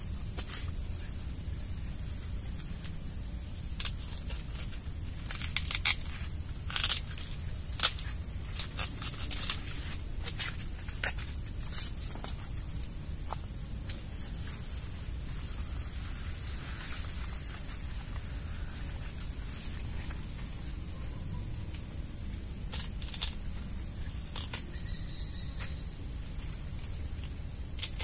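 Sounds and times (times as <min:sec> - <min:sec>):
leaves rustling: 0:00.0 - 0:28.0.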